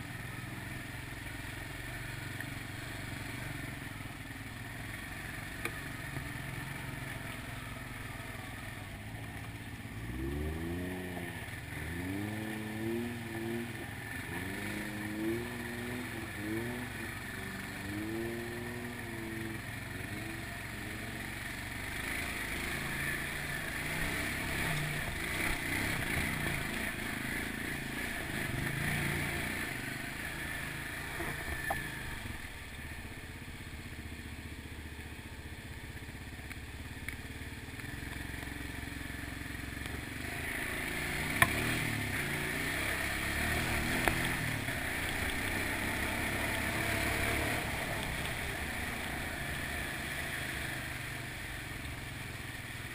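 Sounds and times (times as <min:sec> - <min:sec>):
quad bike engine revving: 0:00.0 - 0:52.9.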